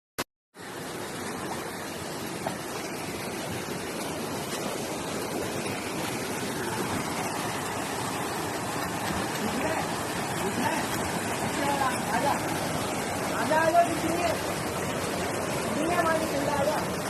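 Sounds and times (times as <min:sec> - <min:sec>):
flowing water rushing: 0:00.6 - 0:17.0.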